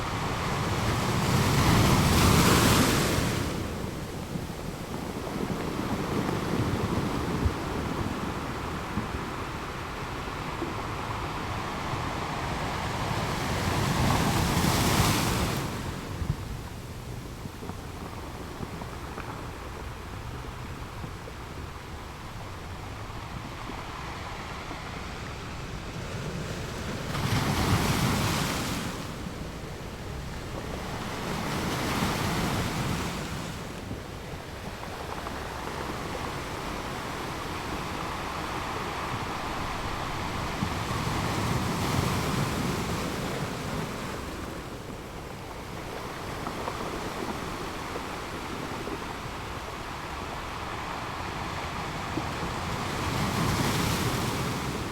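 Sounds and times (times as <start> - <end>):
ocean waves breaking on shore: 0.0 - 17.0, 21.5 - 54.9.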